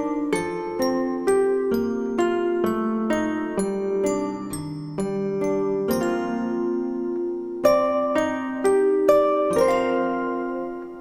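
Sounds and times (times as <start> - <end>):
gentle lullaby with bell-like notes: 0.0 - 11.0.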